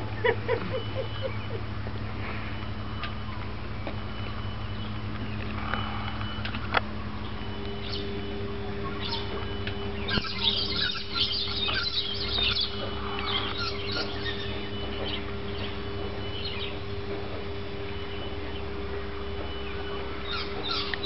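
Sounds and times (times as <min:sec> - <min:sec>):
small birds chirping: 0:00.5 - 0:21.0.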